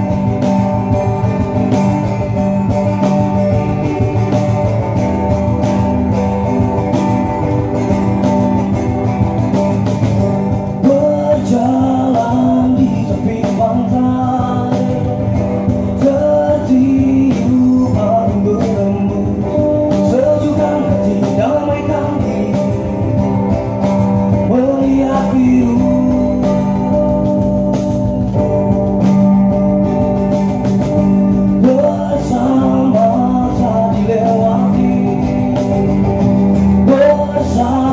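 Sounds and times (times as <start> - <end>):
acoustic guitar strumming: 0.0 - 37.9
steady bass line: 0.0 - 37.9.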